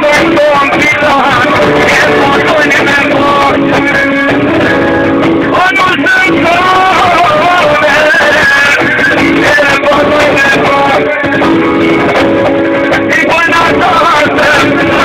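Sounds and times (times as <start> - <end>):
live band music: 0.0 - 15.0
person singing: 0.0 - 15.0
plucked-string melody: 0.0 - 15.0.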